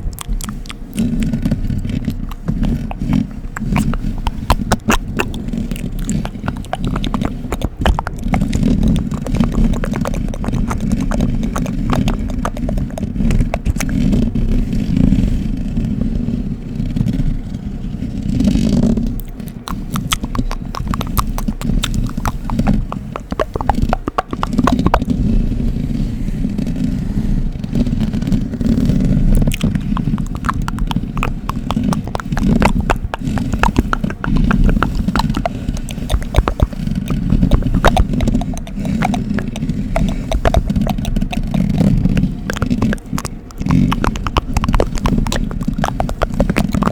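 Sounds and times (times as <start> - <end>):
rapid crackling clicks: 0.0 - 15.2, 18.2 - 25.7, 27.6 - 46.9.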